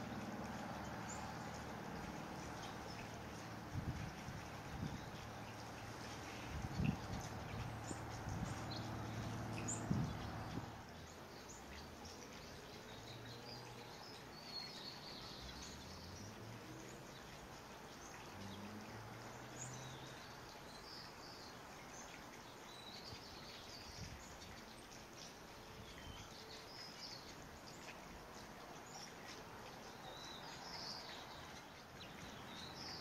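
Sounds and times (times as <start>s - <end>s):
goldfinch twittering chirps: 0.0s - 33.0s.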